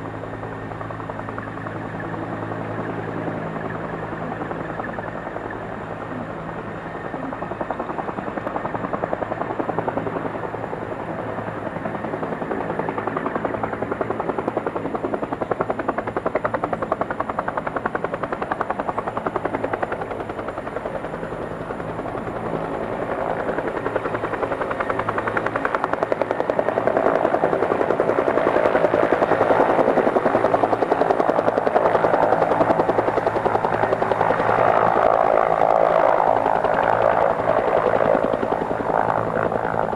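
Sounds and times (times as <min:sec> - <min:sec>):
helicopter rotor beating: 0:00.0 - 0:39.9
turbine engine whine: 0:00.0 - 0:39.9.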